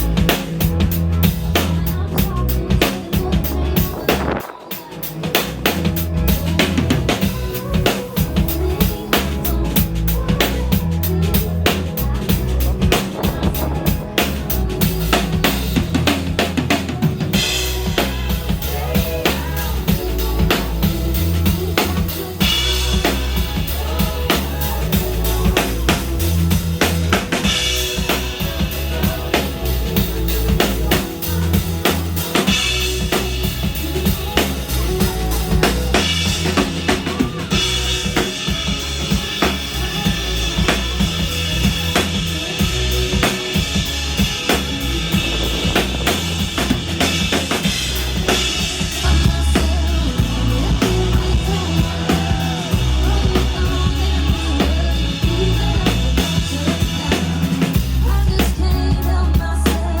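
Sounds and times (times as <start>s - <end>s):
bass line: 0.0s - 60.0s
live band playing: 0.0s - 60.0s.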